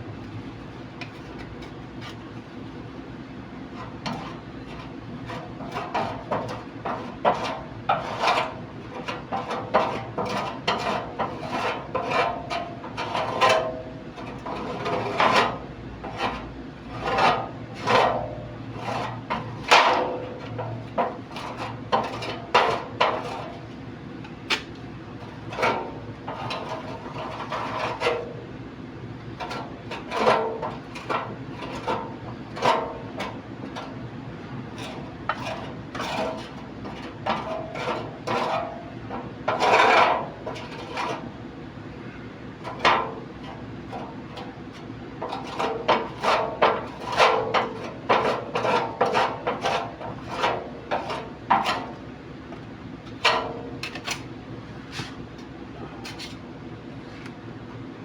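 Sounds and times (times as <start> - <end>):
steady low hum: 0.0 - 58.0
knocking and scraping on parts: 0.6 - 2.6, 3.7 - 28.5, 29.3 - 41.4, 42.0 - 57.4.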